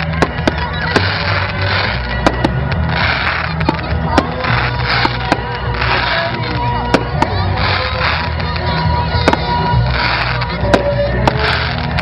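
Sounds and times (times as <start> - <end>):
fireworks bangs: 0.0 - 12.0
fireworks crackling: 0.0 - 12.0
music playing: 0.0 - 12.0.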